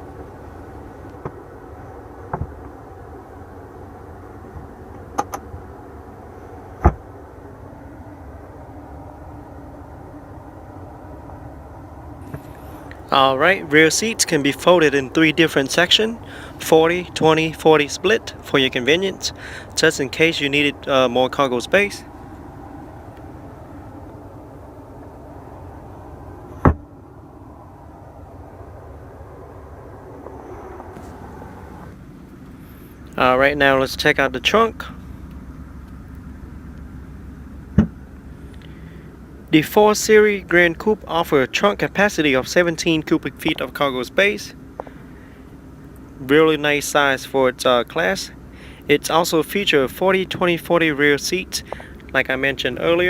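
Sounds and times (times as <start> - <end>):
low background rumble: 0.0 - 53.0.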